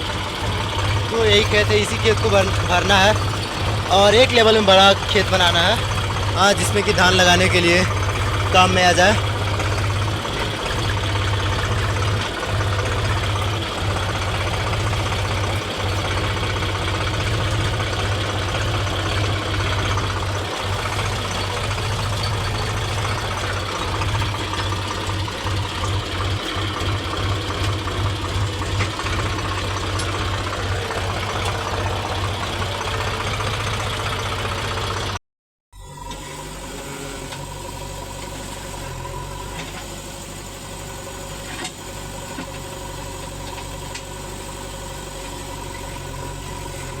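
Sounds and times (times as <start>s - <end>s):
diesel engine droning: 0.0s - 35.2s, 35.8s - 47.0s.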